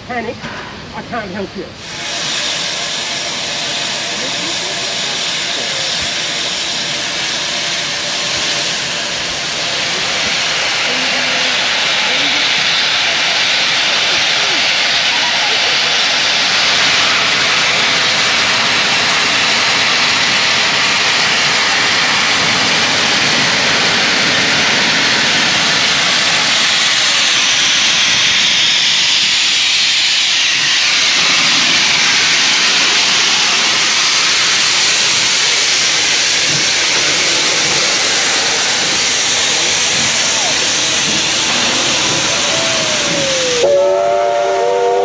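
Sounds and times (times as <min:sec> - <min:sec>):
steam locomotive hissing: 0:00.0 - 0:45.0.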